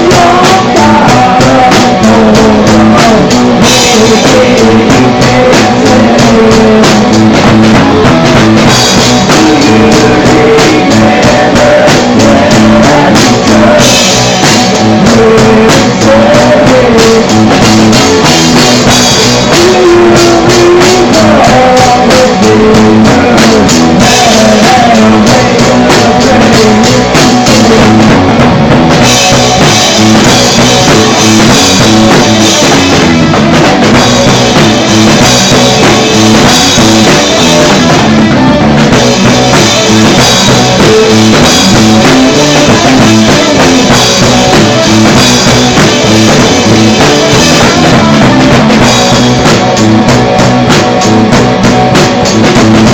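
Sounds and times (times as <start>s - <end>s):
bending guitar line: 0.0s - 52.9s
punk rock band playing loud: 0.0s - 52.9s.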